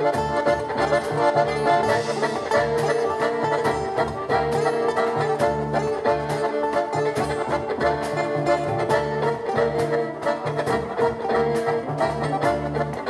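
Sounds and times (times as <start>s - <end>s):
button accordion: 0.0s - 13.0s
double bass: 0.0s - 13.0s
fiddle: 0.0s - 13.0s.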